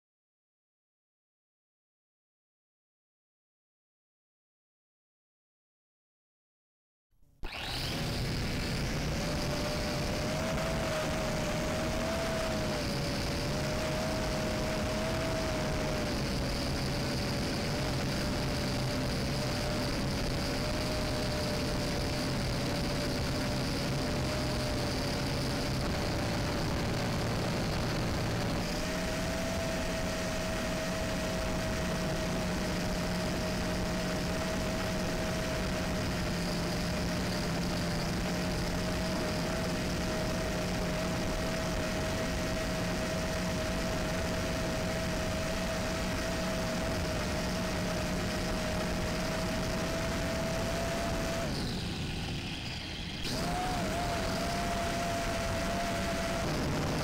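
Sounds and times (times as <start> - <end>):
quadcopter motors whining: 7.4 - 57.0.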